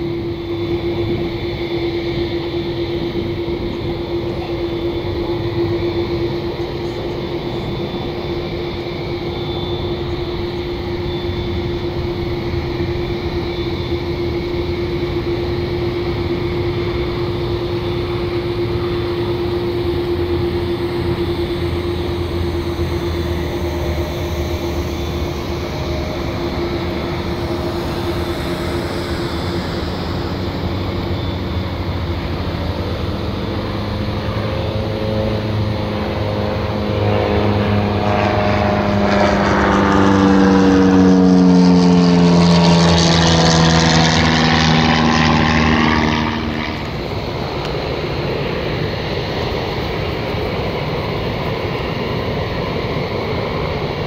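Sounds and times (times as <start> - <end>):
jet engine whine passing: 0.0 - 54.0.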